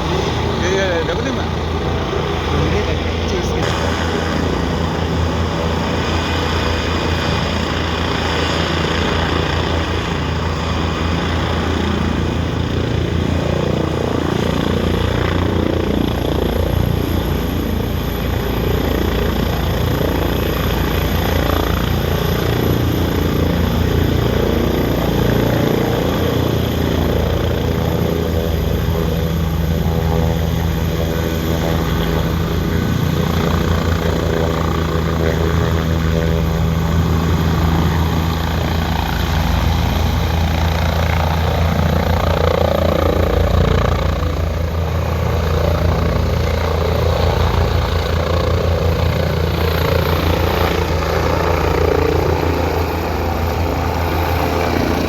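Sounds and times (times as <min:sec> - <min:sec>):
helicopter rotor beating: 0:00.0 - 0:55.0.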